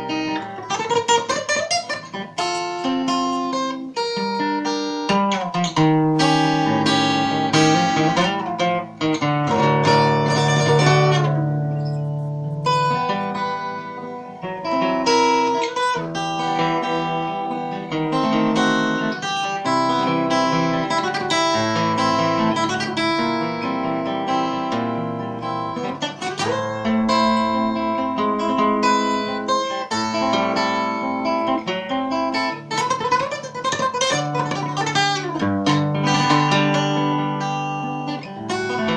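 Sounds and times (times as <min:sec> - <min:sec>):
flamenco acoustic guitar: 0:00.0 - 0:38.9.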